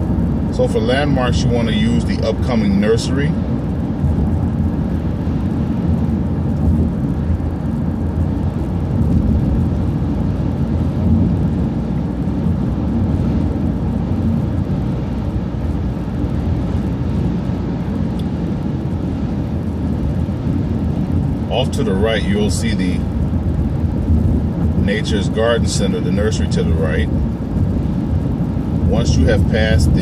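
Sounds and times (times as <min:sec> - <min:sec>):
bus engine and road noise drone: 0:00.0 - 0:30.0.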